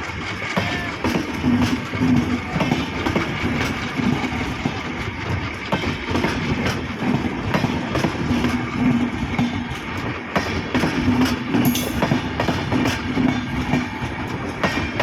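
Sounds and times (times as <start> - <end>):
low train drone: 0.0 - 15.0
train wheels clacking on rails: 0.0 - 15.0.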